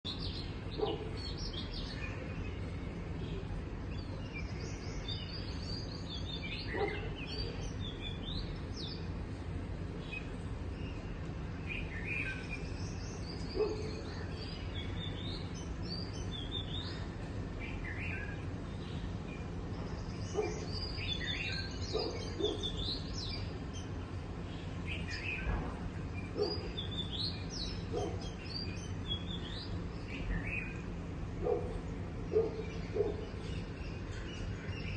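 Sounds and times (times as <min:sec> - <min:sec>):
small birds chirping: 0:00.0 - 0:34.9
steady low background noise: 0:00.1 - 0:34.9.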